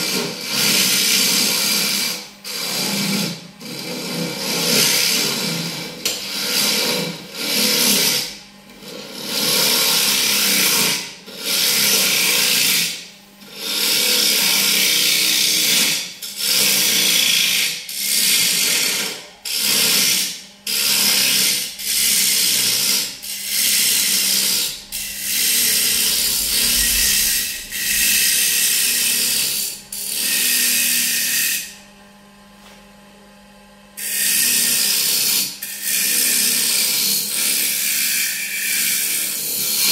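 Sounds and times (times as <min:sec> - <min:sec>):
turning tool scraping wood on lathe: 0:00.0 - 0:31.8, 0:34.0 - 0:39.9.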